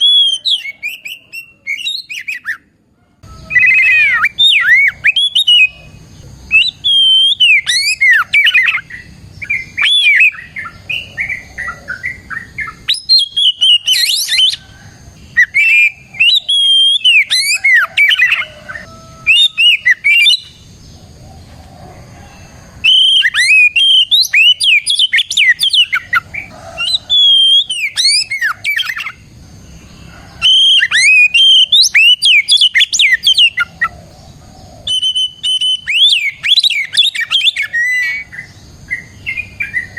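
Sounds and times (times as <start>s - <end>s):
bird singing whistled notes: 0.0s - 2.6s, 3.3s - 21.0s, 22.8s - 29.2s, 30.4s - 39.9s.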